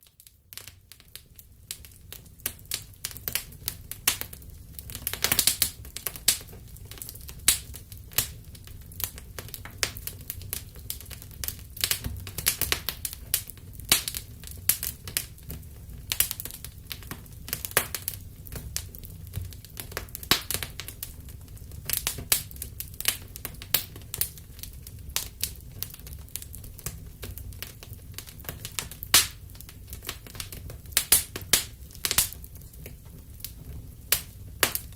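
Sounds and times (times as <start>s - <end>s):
fire crackling and popping: 0.0s - 34.9s
low rumble of flames: 0.2s - 34.9s.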